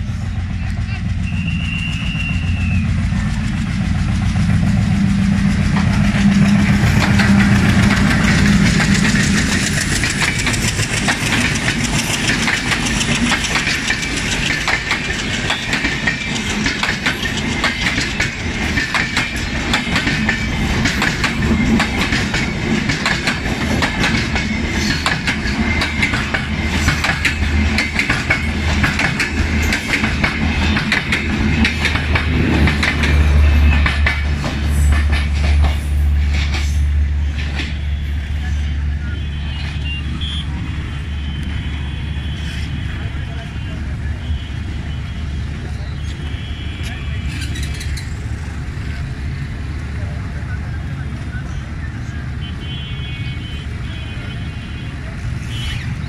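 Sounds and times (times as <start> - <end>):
diesel locomotive rumbling: 0.0 - 56.0
train wheels clickety-clack: 0.0 - 56.0.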